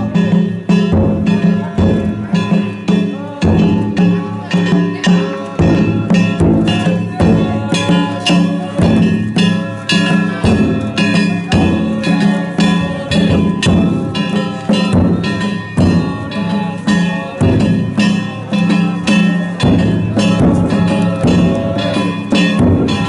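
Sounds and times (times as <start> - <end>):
metal gongs clanging: 0.0 - 23.0
taiko drum beating: 0.0 - 23.0.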